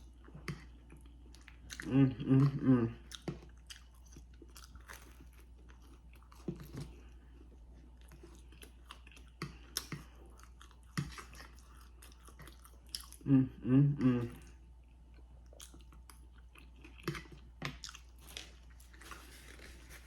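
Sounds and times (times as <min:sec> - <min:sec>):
person chewing food: 0:00.0 - 0:13.3, 0:14.0 - 0:20.0.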